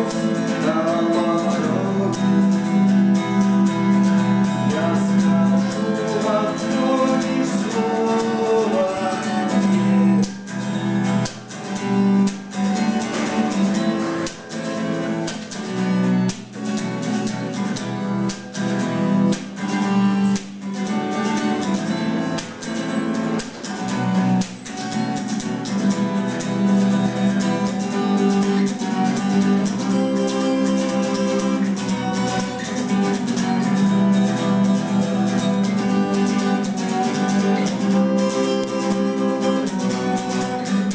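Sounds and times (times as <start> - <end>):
strummed guitar: 0.0 - 40.9.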